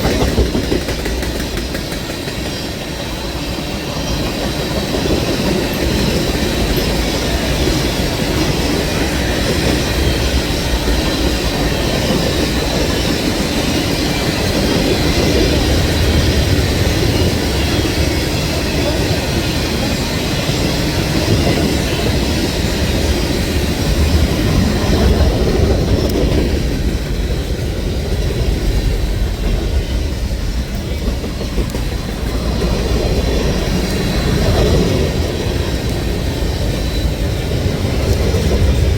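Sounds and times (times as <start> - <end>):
train rumbling past: 0.0 - 38.9.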